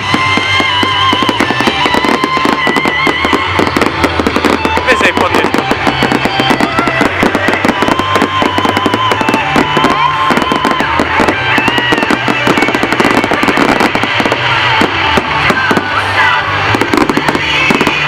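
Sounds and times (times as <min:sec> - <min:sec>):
fireworks bangs and crackles: 0:00.0 - 0:18.0
fireworks whistling: 0:00.0 - 0:18.0.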